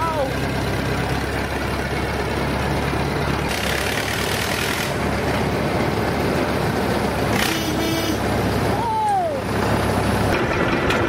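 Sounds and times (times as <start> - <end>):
old tractor engine running: 0.0 - 11.0.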